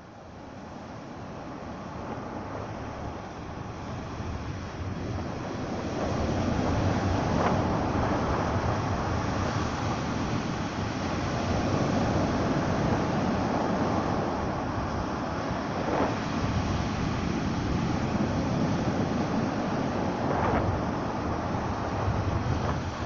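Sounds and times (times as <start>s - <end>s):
surf washing on shore: 0.0s - 23.0s
wind buffeting microphone: 0.3s - 23.0s.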